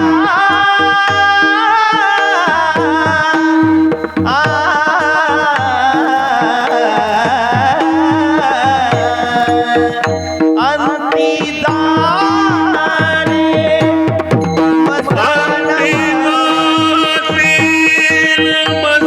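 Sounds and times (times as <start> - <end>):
hand drum rhythm: 0.0 - 19.0
person singing devotional melody: 0.0 - 19.0.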